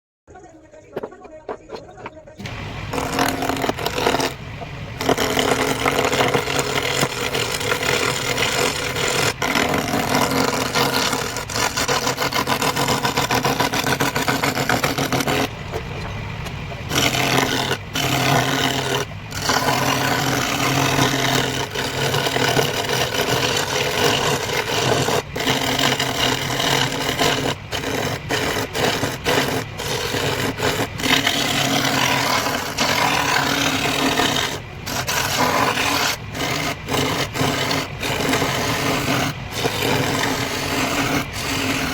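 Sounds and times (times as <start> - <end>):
tool scraping spinning wood: 0.8 - 41.9
lathe motor humming: 1.0 - 41.9.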